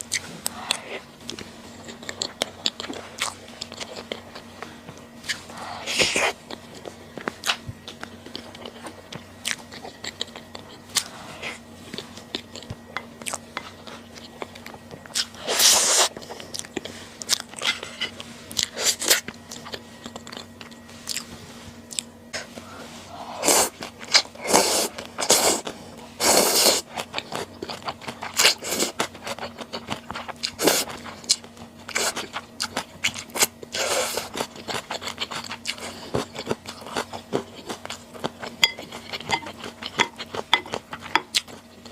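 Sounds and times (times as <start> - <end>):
faint steady hum: 0.0 - 41.9
person chewing and crunching food: 0.0 - 41.9.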